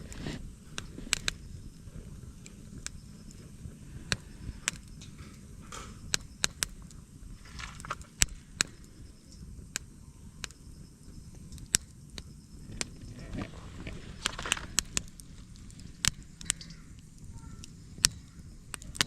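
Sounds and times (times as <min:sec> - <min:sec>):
fire crackling and popping: 0:00.0 - 0:19.0
low steady rumble: 0:00.0 - 0:19.0.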